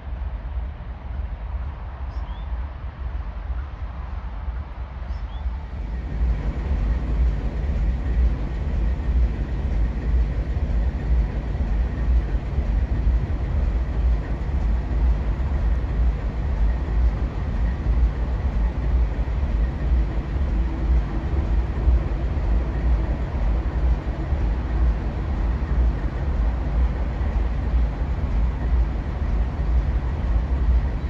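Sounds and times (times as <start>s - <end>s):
faint hum: 0.0s - 31.0s
diesel locomotive rumble: 5.6s - 31.0s.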